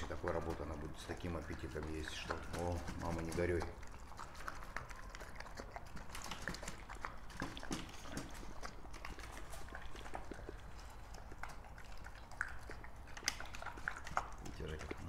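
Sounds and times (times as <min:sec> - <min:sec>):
dog chewing wet food: 0:00.0 - 0:15.0.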